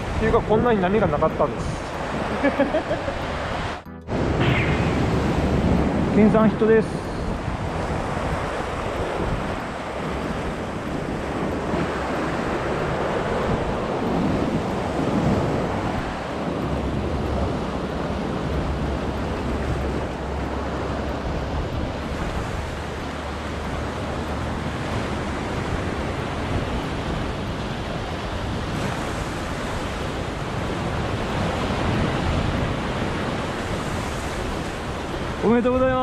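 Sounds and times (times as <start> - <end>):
sea waves washing over rocks: 0.0 - 36.0
wind buffeting microphone: 0.0 - 36.0.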